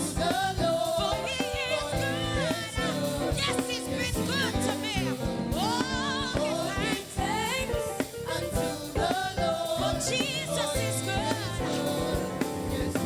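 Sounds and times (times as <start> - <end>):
band with steady drum beat: 0.0 - 13.0
person singing gospel: 0.0 - 13.0.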